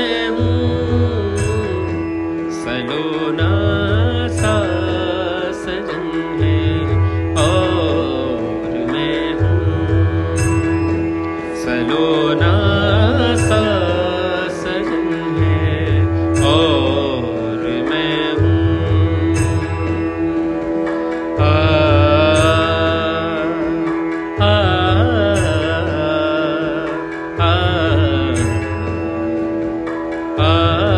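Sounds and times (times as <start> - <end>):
sliding bending melody: 0.0 - 30.9.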